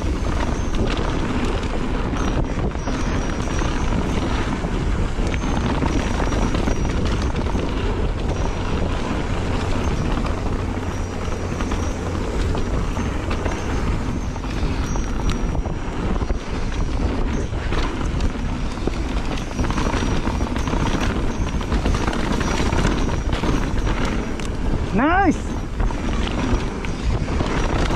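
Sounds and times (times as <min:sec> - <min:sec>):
bike tyres rolling and rattling: 0:00.0 - 0:27.9
wind buffeting microphone: 0:00.0 - 0:27.9.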